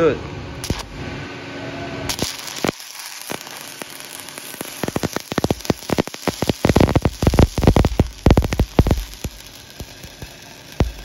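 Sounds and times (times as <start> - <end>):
welding arc hissing and crackling: 0.6 - 11.0.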